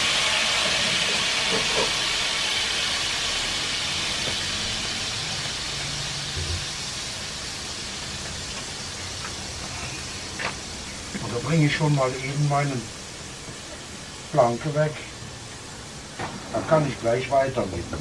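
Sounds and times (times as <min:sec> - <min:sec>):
water hissing into steam: 0:00.0 - 0:18.0.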